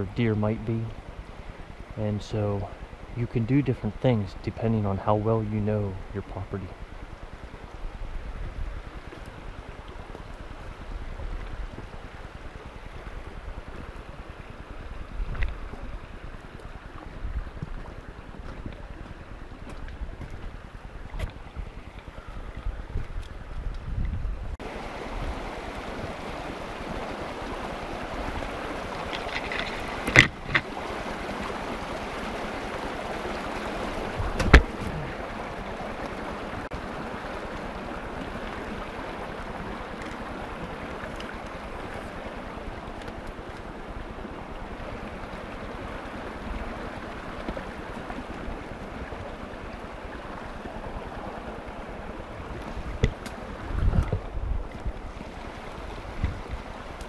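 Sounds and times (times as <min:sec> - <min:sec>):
wind rushing through woods: 0:00.0 - 0:57.0.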